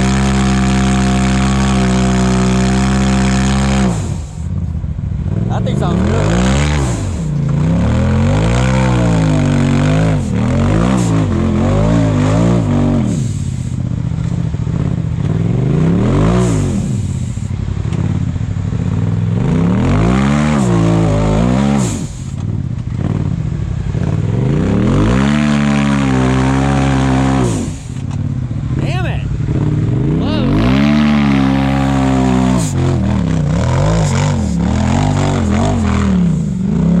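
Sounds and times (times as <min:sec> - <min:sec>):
utility vehicle engine revving: 0:00.0 - 0:37.0.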